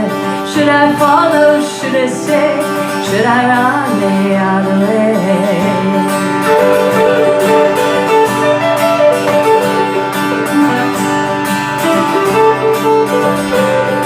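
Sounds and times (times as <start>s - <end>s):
guitar picked and strummed: 0.0s - 14.0s.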